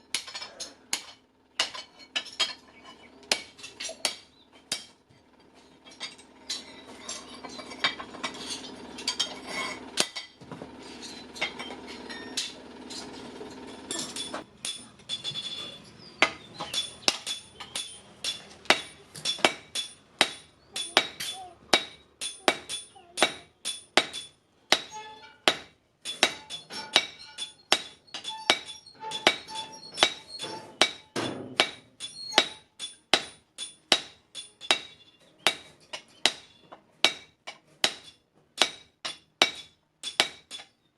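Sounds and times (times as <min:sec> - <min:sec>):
hammer striking steel on anvil: 0:00.1 - 0:02.6, 0:03.3 - 0:05.0, 0:05.9 - 0:10.4, 0:13.9 - 0:40.8.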